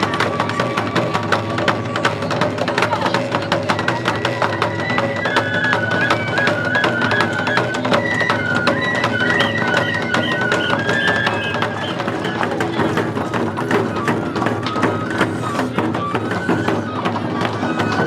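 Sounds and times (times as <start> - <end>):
high bamboo flute melody: 0.0 - 18.0.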